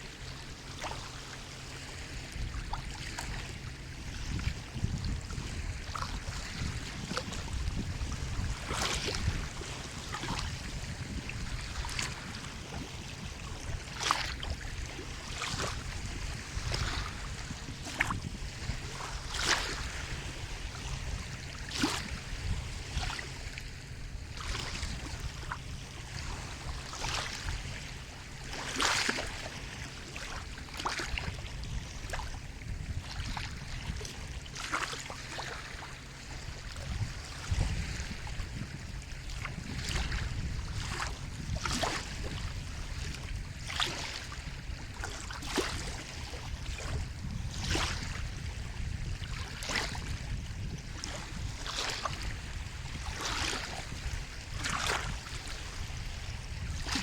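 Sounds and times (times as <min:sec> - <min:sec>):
sea waves washing on shore: 0:00.0 - 0:57.0.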